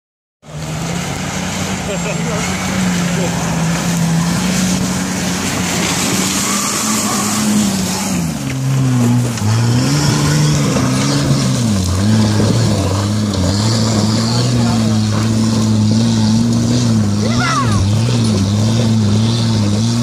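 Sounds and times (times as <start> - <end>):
engine revving under load: 0.4 - 20.0.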